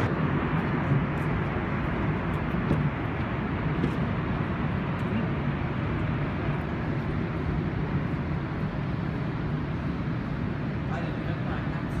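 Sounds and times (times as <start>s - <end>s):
metro train rumble and hiss: 0.0s - 12.0s.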